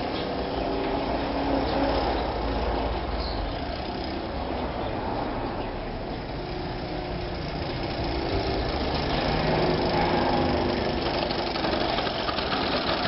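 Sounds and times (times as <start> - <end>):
moped two-stroke engine running: 0.0 - 4.8, 5.9 - 13.0.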